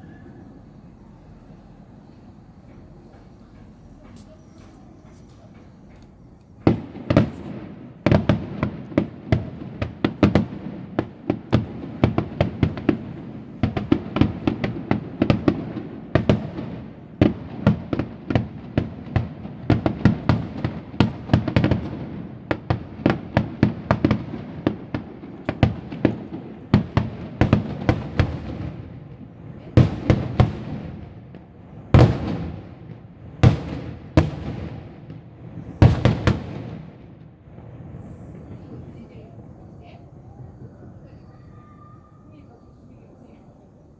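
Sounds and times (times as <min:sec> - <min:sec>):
fireworks bursting: 0:00.0 - 0:41.6.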